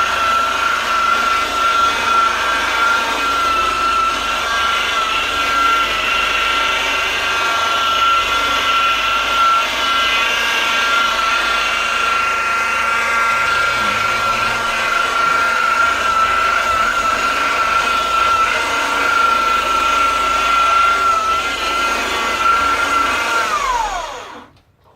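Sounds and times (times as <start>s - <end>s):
power tool high whine: 0.0s - 24.6s.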